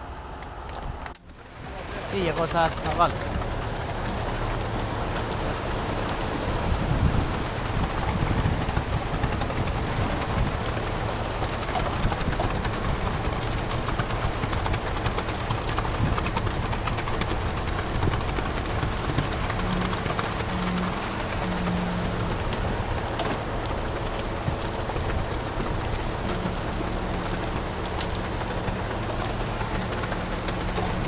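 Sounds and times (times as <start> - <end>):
diesel machine drone: 0.0 - 31.0.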